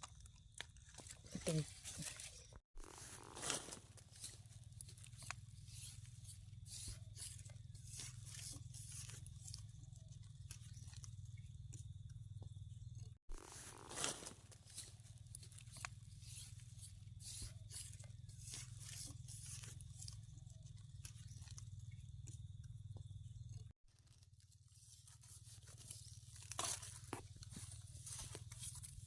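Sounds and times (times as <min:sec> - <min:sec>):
crunching and crackling: 0:00.0 - 0:29.0.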